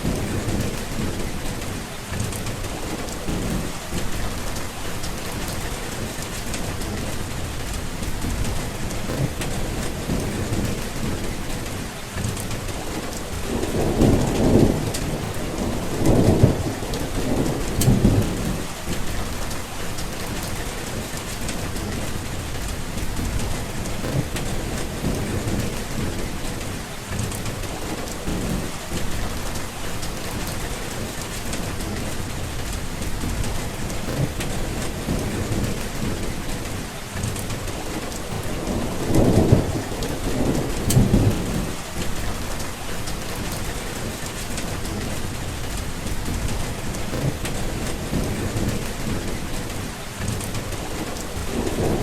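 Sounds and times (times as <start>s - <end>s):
steady rain falling: 0.0s - 52.0s
thunder rumbling: 0.0s - 52.0s.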